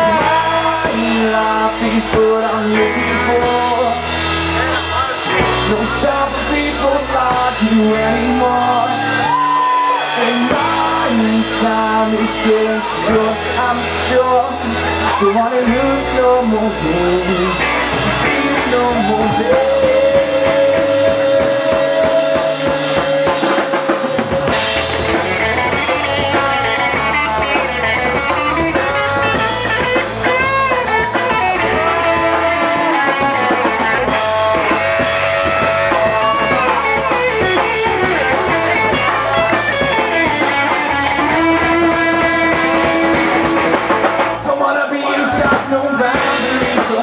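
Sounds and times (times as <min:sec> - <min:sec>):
reggae band playing: 0:00.0 - 0:47.0.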